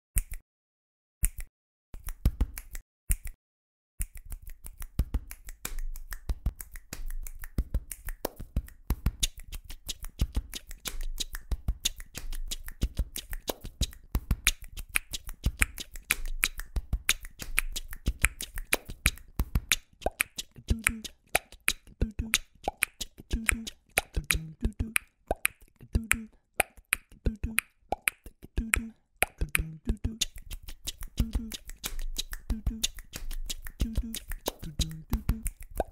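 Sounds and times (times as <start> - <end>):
beatboxing mouth clicks: 0.2 - 0.4, 1.2 - 3.4, 4.0 - 35.9.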